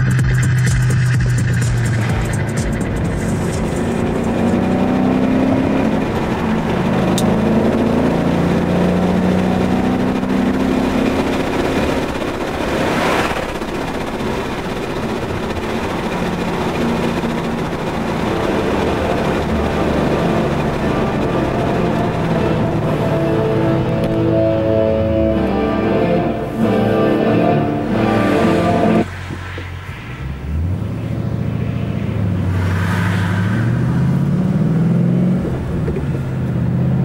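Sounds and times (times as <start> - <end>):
car engine accelerating: 0.0 - 37.0
passing car rushing noise: 1.8 - 36.8.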